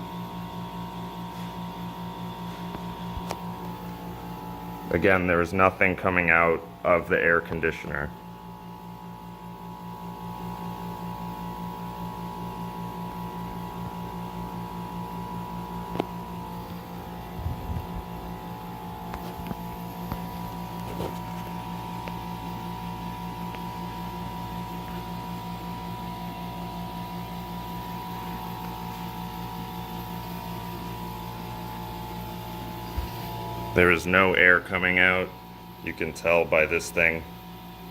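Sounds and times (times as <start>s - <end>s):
window air conditioner humming: 0.0s - 37.9s.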